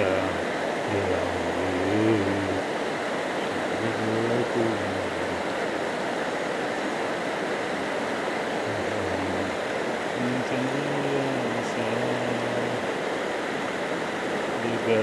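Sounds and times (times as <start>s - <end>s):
river rushing over stones: 0.0s - 15.0s.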